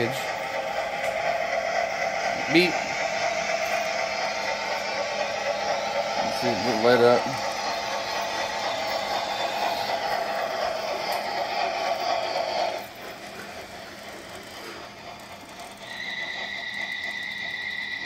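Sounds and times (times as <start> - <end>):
model train clattering on track: 0.0 - 18.0.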